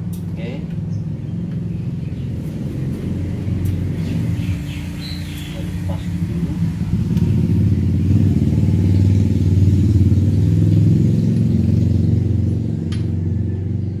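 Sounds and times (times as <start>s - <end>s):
engine running with pulsing hum: 0.0s - 14.0s.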